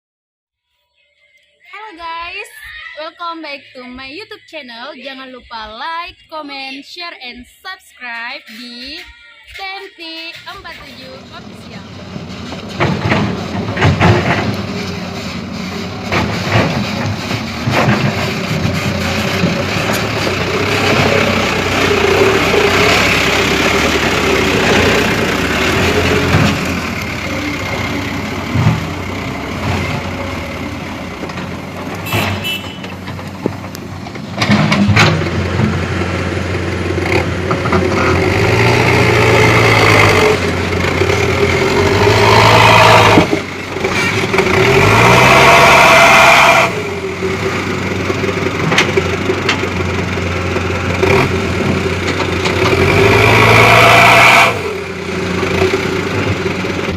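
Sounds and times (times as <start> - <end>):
dump truck engines revving: 9.8 - 56.9.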